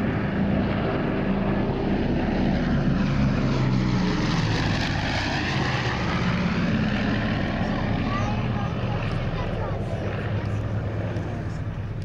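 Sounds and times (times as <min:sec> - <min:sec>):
propeller airliner droning flyby: 0:00.0 - 0:12.0.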